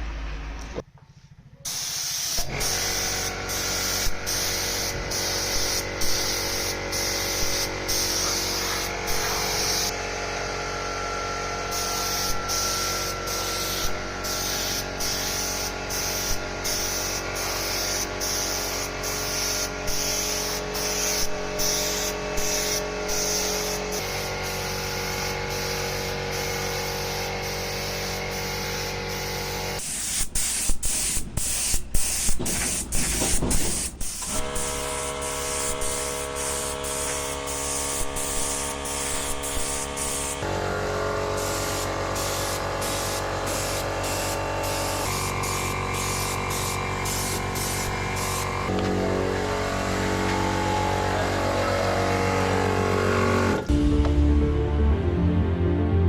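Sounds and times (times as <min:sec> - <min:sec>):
paint spray gun hissing: 0:01.6 - 0:10.0, 0:11.6 - 0:53.4.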